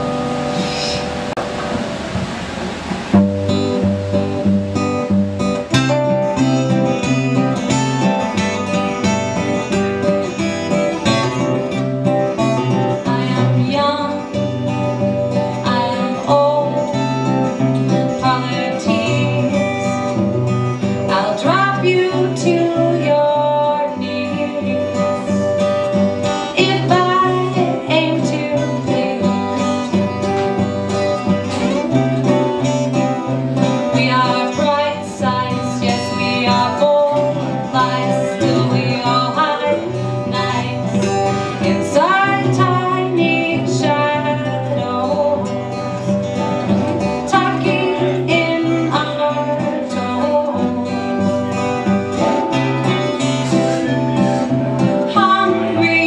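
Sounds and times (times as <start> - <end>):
acoustic guitars strumming chords: 0.0 - 56.0.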